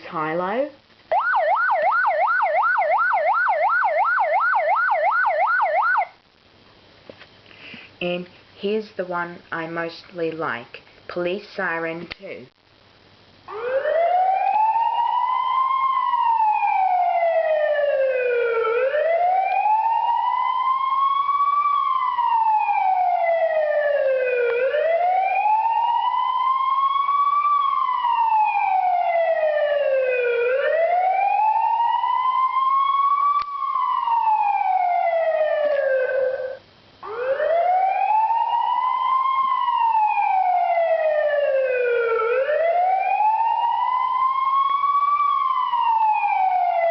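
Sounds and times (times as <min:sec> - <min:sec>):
police siren ringtone: 0:01.1 - 0:06.1, 0:13.5 - 0:46.9.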